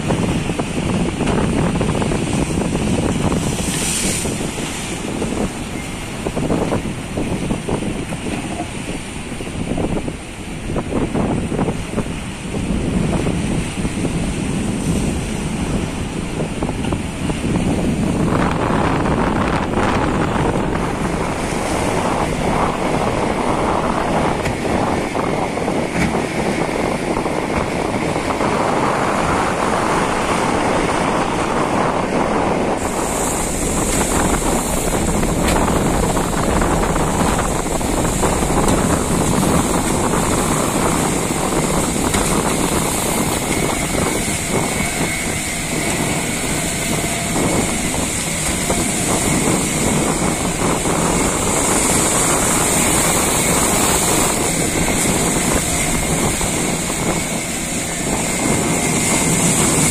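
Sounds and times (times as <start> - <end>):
sea waves breaking: 0.0 - 59.9
wind buffeting microphone: 0.0 - 59.9.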